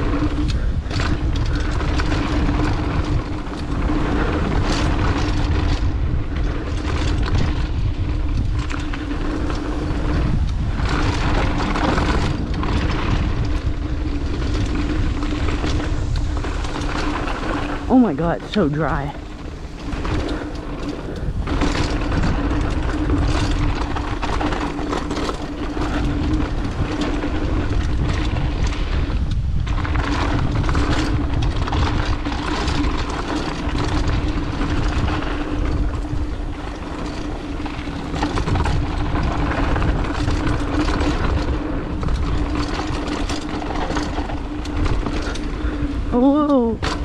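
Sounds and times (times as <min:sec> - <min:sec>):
bike clattering over bumps: 0:00.0 - 0:17.9, 0:19.2 - 0:47.0
bike tyres crunching over rocks: 0:00.0 - 0:17.9, 0:19.2 - 0:46.1
wind on microphone: 0:00.0 - 0:47.0.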